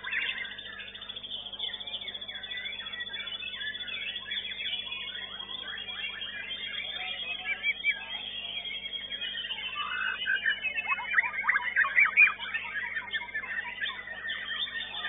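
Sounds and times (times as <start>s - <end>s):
songbirds singing whistled phrases: 0.0s - 15.0s.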